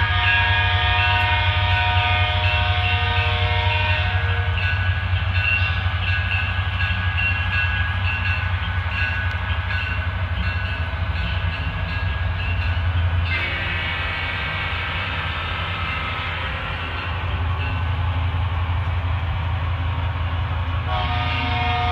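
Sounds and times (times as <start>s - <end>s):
model locomotive engine rumble: 0.0s - 21.9s.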